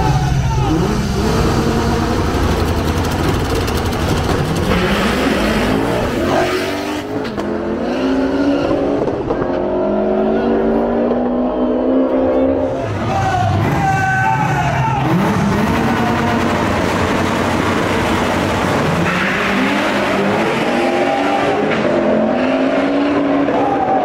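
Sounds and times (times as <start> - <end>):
car engines accelerating hard: 0.0 - 24.0.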